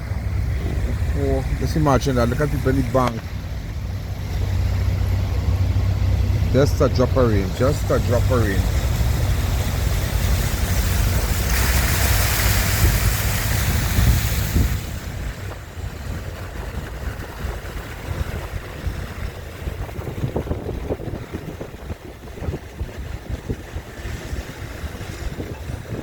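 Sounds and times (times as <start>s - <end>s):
floodwater rushing: 0.0s - 26.0s
wind buffeting microphone: 0.0s - 26.0s.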